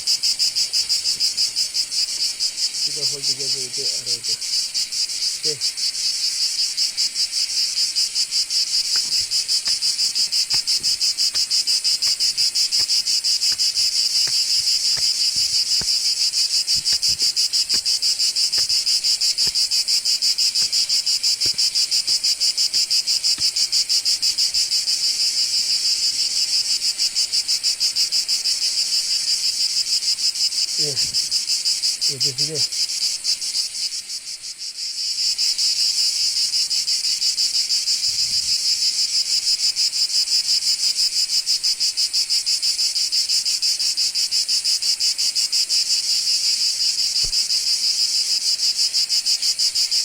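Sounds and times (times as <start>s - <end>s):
insect chorus trilling: 0.0s - 50.0s.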